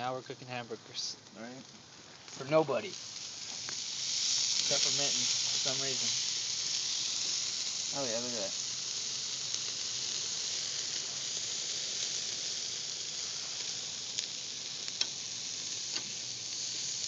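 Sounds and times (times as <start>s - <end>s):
patties sizzling on a grill: 0.0s - 17.0s.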